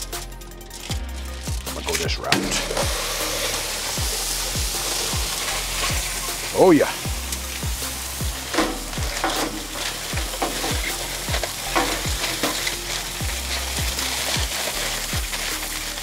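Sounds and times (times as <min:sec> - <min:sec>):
music with deep bass beat: 0:00.0 - 0:16.0
meat sizzling on a griddle: 0:00.9 - 0:16.0.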